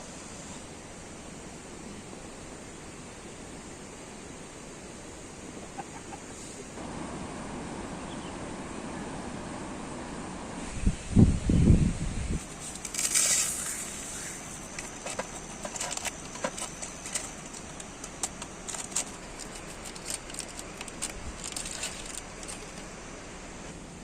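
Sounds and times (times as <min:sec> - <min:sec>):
rain hiss: 0:00.0 - 0:24.0
rustle: 0:00.0 - 0:24.0.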